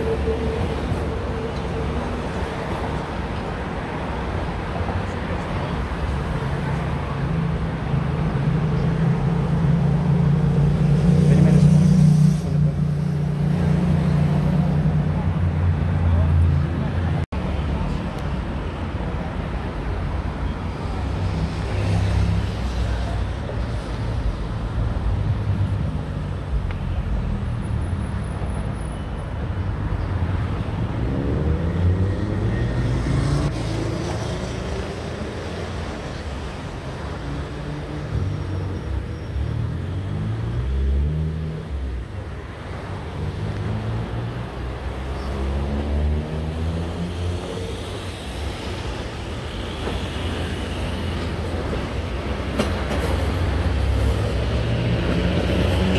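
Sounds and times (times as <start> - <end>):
car engines passing: 0.0 - 55.9.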